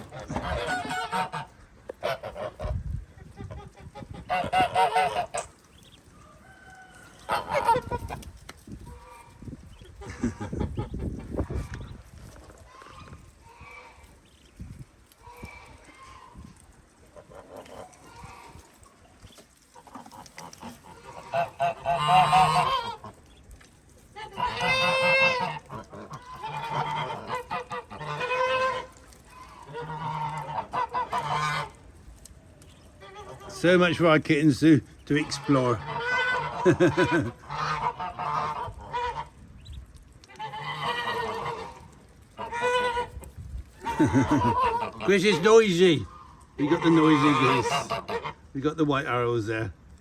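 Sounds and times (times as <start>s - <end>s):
geese honking: 0.0s - 32.0s, 32.6s - 49.5s.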